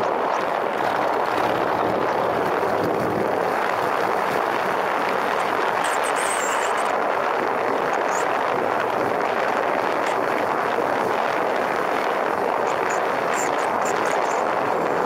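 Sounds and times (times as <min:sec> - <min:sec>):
wind rushing on camera: 0:00.0 - 0:15.0.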